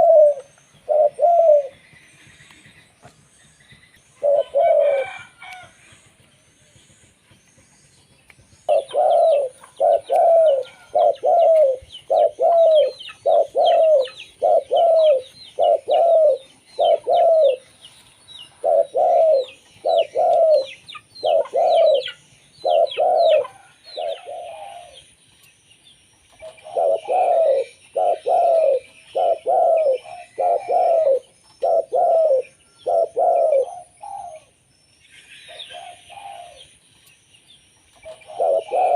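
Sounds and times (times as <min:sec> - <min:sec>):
dove cooing: 0:00.0 - 0:06.2, 0:08.7 - 0:25.1, 0:26.4 - 0:34.6, 0:35.2 - 0:36.8, 0:37.9 - 0:38.9.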